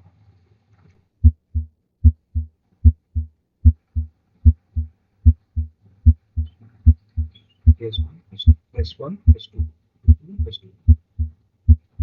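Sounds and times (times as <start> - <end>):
heartbeat lub-dub: 1.2 - 12.0.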